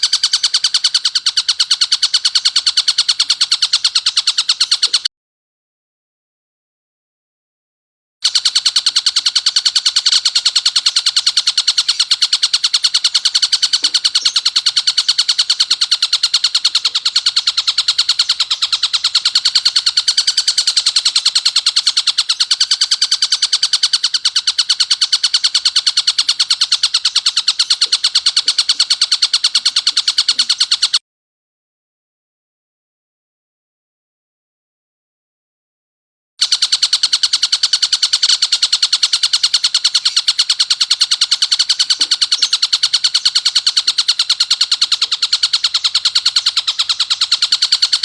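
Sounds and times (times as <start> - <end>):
bird rapid harsh chatter: 0.0 - 5.1, 8.2 - 31.0, 36.4 - 48.0.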